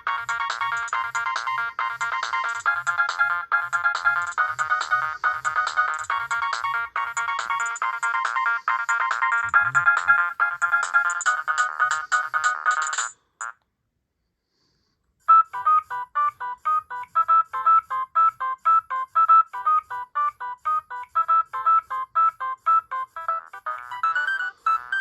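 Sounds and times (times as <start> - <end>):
mobile phone ringtone melody: 0.0 - 13.6, 15.3 - 25.0.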